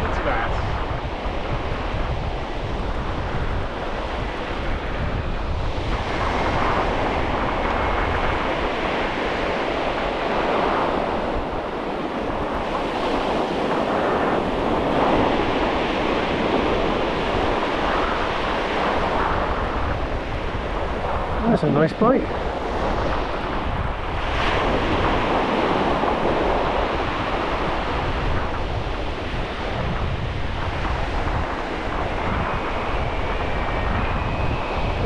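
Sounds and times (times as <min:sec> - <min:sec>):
surf breaking on a beach: 0:00.0 - 0:35.0
wind buffeting the microphone: 0:00.0 - 0:35.0.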